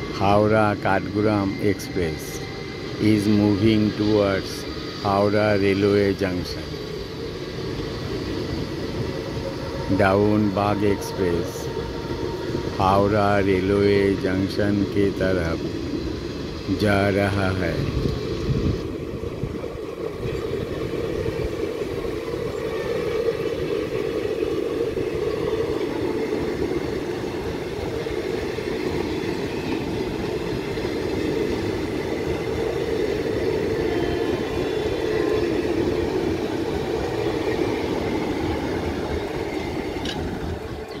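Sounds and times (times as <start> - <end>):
train wheels running on rails: 0.0 - 41.0.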